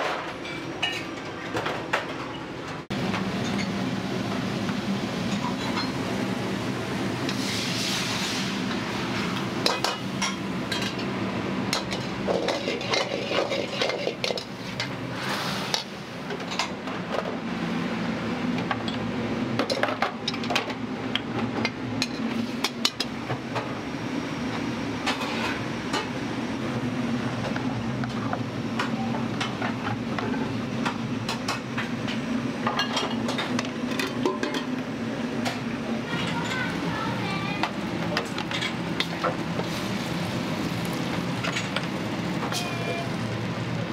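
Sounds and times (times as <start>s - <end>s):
low kitchen rumble: 0.0s - 43.9s.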